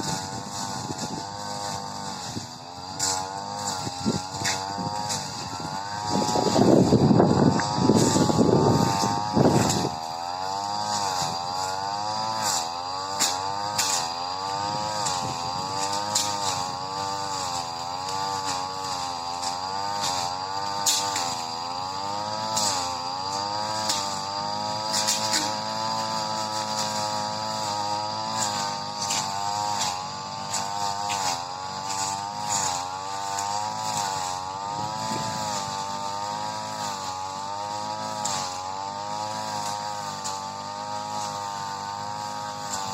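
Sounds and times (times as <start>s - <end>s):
brush cutter cutting grass: 0.0s - 42.9s.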